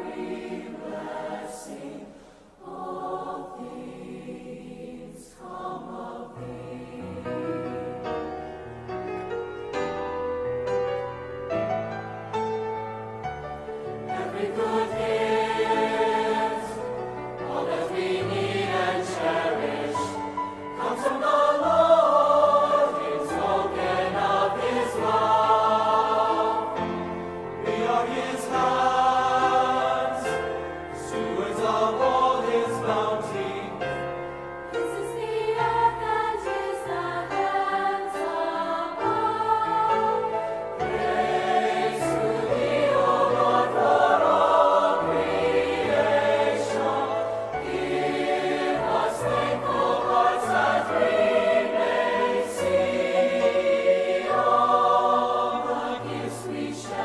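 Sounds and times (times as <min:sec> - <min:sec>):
choir singing a hymn: 0:00.0 - 0:10.8, 0:11.4 - 0:57.0.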